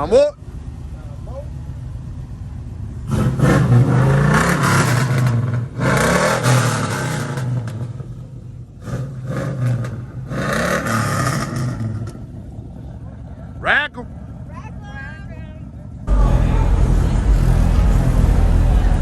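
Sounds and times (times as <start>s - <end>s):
low engine rumble: 0.0s - 19.0s
truck engine revving: 1.7s - 14.9s, 15.7s - 19.0s.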